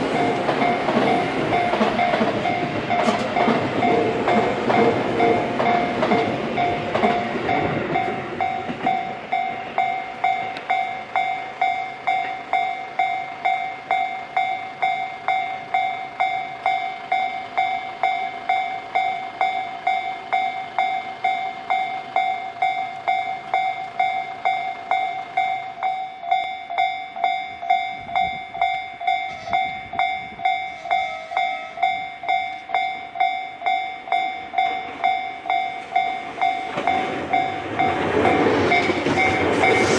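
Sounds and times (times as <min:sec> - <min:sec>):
level crossing warning bell: 0:00.0 - 0:39.9
passing train rumble: 0:00.0 - 0:39.9.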